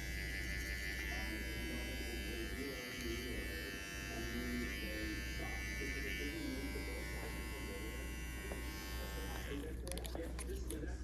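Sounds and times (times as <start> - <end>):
electric hair clippers buzzing: 0.0 - 9.8.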